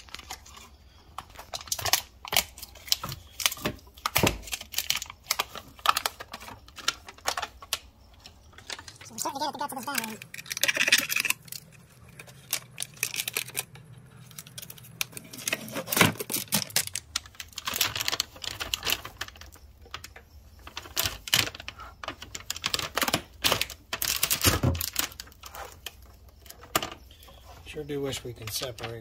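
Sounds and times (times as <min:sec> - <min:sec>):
plastic wrapping crackling: 0:00.0 - 0:27.7.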